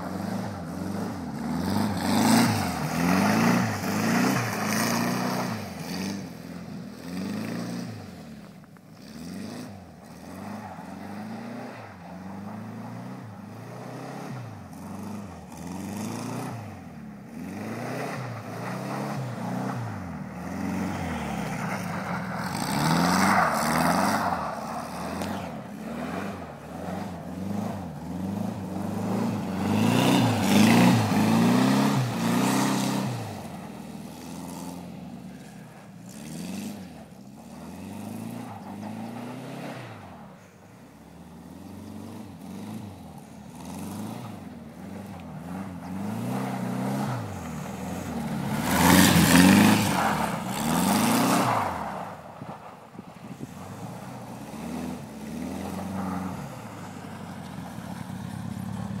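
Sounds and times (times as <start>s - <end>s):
car engine revving: 0.0s - 40.1s, 41.4s - 52.0s.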